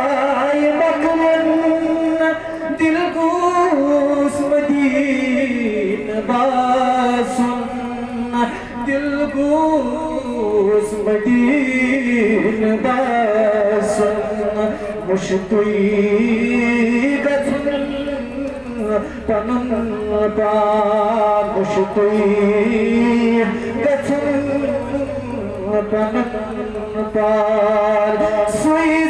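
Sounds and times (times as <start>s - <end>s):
man singing into a microphone: 0.0s - 29.0s.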